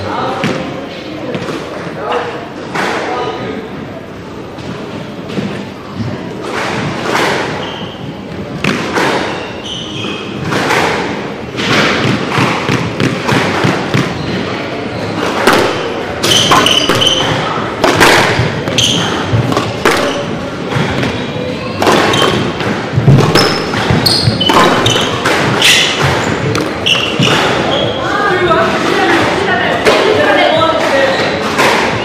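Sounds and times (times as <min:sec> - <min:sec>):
squash balls thudding echoing: 0:00.2 - 0:03.4, 0:04.4 - 0:32.0.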